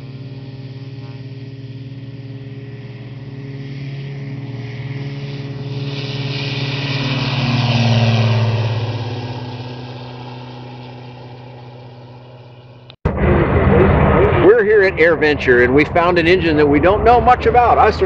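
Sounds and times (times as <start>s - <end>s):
light aircraft engine at full power: 0.0s - 18.0s.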